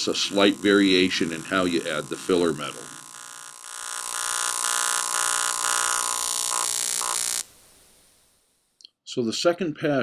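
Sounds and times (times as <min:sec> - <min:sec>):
welding arc buzzing: 0:00.0 - 0:08.7.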